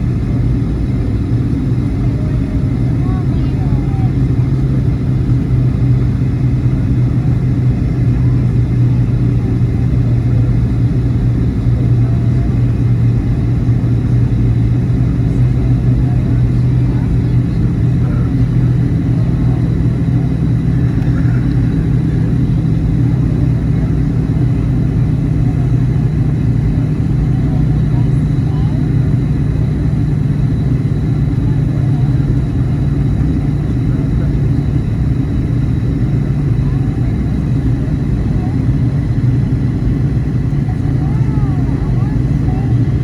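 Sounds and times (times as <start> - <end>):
jet engine cabin drone: 0.0 - 43.0.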